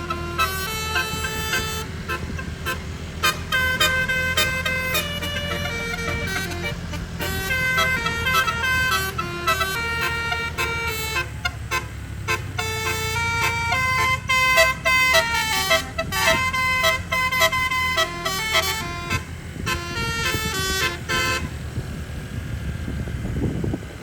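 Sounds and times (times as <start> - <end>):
bus horn playing quick melody: 0.0 - 22.0
bus engine running: 0.0 - 24.0.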